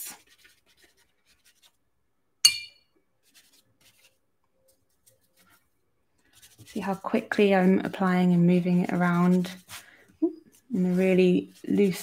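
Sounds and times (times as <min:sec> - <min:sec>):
paintbrush strokes on paper: 0:00.0 - 0:01.9, 0:03.2 - 0:12.0.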